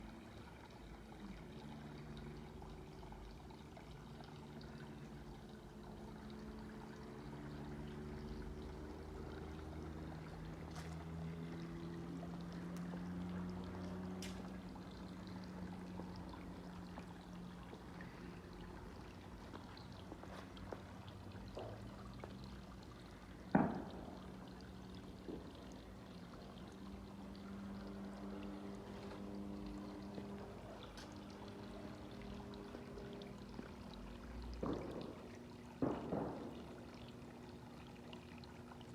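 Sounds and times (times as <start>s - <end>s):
water splashing over rocks: 5.6s - 38.9s.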